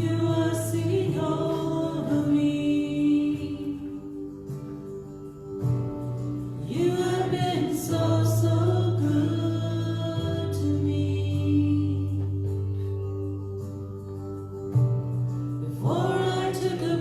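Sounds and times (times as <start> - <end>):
person singing with vibrato: 0.0 - 5.4, 6.5 - 13.8, 15.6 - 17.0.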